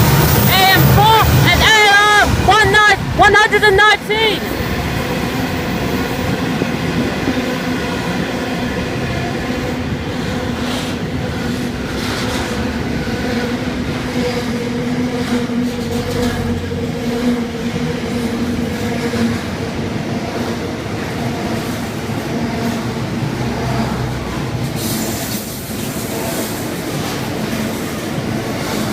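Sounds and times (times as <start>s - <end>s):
freight train rolling past: 0.0s - 28.9s.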